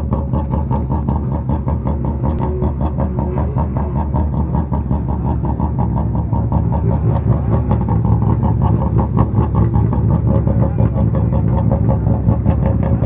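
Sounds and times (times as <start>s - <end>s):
rally car engine idling: 0.0s - 13.0s.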